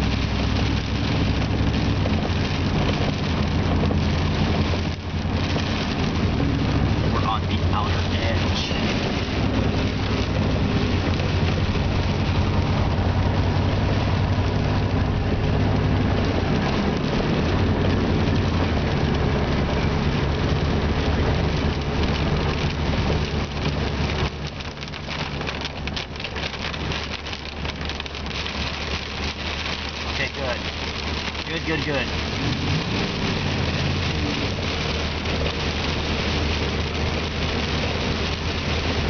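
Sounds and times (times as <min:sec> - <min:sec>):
car engine running: 0:00.0 - 0:39.0
rain on windshield: 0:00.0 - 0:39.0
tyres hissing on wet road: 0:00.0 - 0:39.0.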